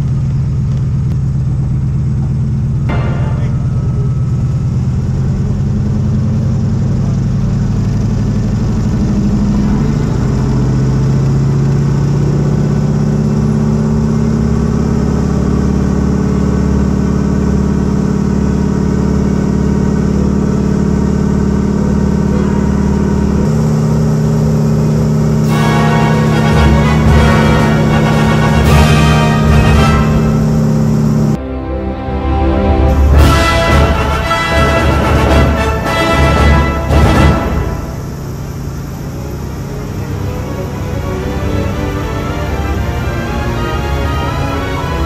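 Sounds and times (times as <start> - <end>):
piston aircraft engine running: 0.0 - 45.0.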